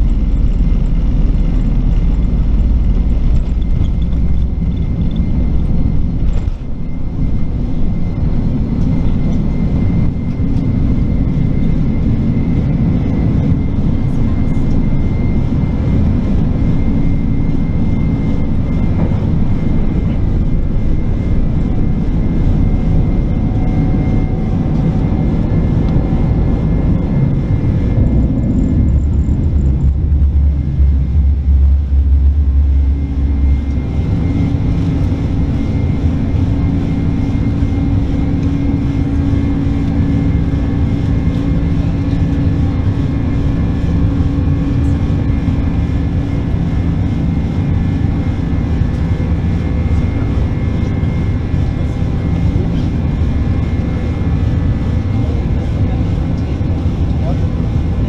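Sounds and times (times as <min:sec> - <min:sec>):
aircraft cabin engine rumble: 0:00.0 - 0:58.0
steady low hum: 0:00.0 - 0:58.0.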